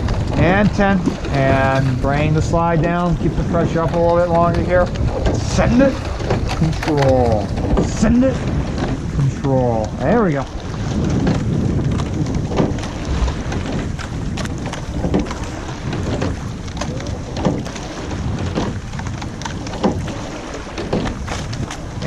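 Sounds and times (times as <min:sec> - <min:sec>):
oar stroke knocks: 0:00.0 - 0:22.0
water rushing: 0:00.0 - 0:22.0
wind on microphone: 0:00.0 - 0:22.0.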